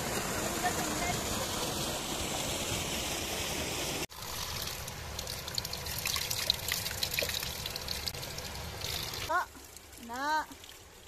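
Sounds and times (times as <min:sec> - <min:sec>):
stream water rushing: 0:00.0 - 0:11.0
water trickling and splattering: 0:00.0 - 0:11.0.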